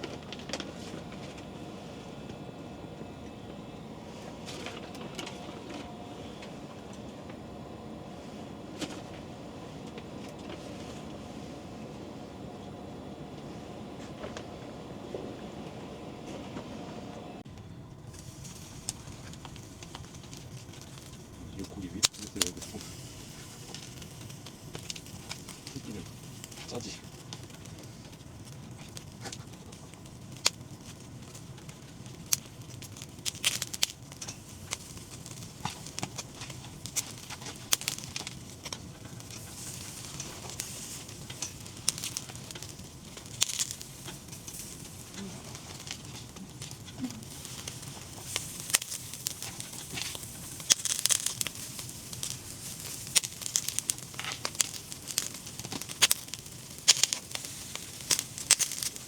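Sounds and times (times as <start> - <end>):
crackling with sharp pops: 0.0 - 59.0.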